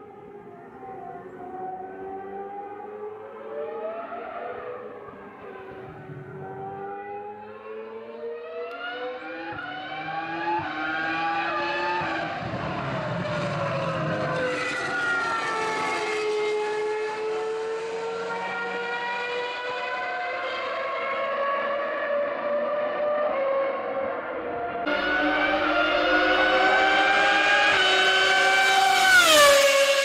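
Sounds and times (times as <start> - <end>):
racing car engine revving past: 1.3 - 30.0.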